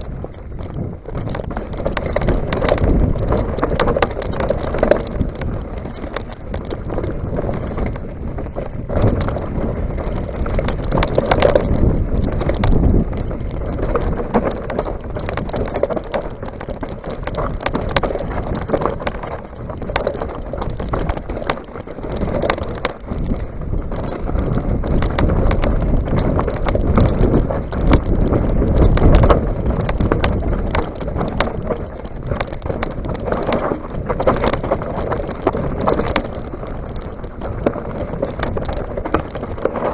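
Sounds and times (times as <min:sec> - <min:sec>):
bike rattling over bumps: 0:00.0 - 0:39.9
tyres crunching over stones: 0:00.0 - 0:39.9
wind buffeting microphone: 0:00.0 - 0:39.9.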